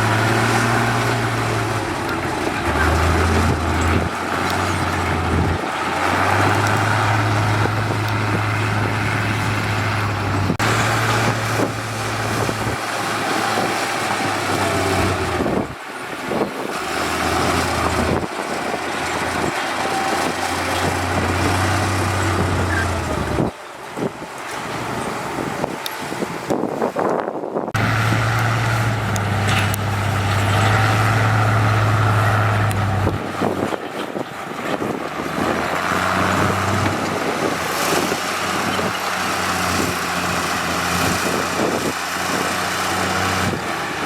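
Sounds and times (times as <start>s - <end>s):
heavy machinery diesel engine rumbling: 0.0s - 44.0s.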